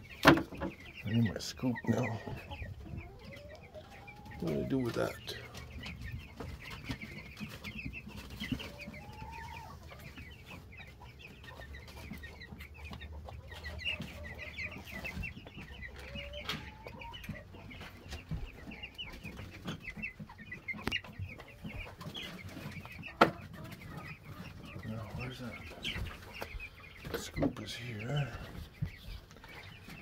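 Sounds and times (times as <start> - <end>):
poultry chirping chorus: 0.0 - 30.0.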